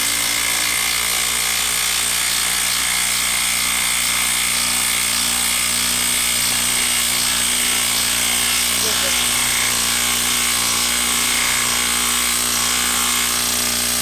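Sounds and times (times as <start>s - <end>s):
impact driver hammering: 0.0s - 14.0s.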